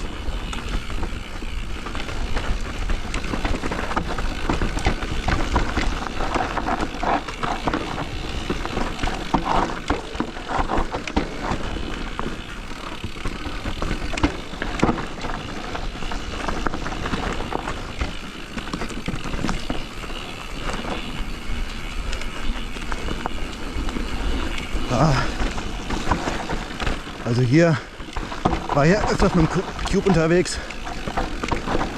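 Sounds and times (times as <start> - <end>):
bike knocks and rattles: 0.0 - 31.9
tyres rolling on dirt: 0.0 - 31.9.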